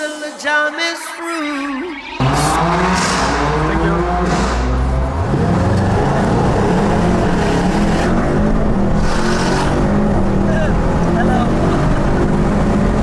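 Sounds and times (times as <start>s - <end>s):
car engine accelerating hard: 2.1s - 13.0s.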